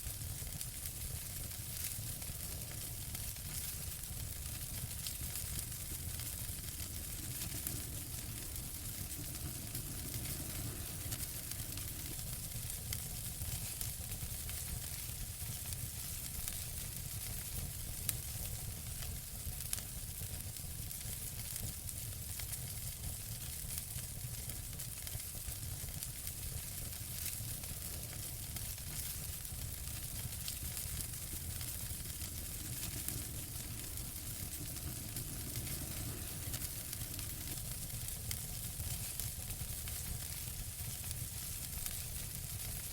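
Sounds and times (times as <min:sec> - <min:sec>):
soft low rumble and hiss: 0:00.0 - 0:42.9
wood fire crackling: 0:00.0 - 0:42.9.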